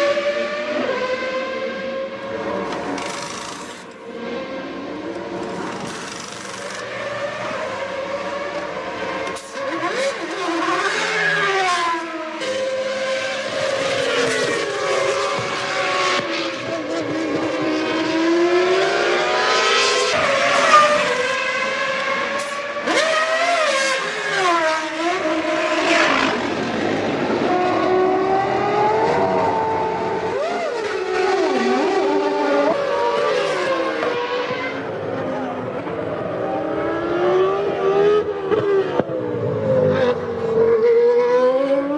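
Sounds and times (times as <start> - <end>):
racing car engines passing: 0.0 - 41.9.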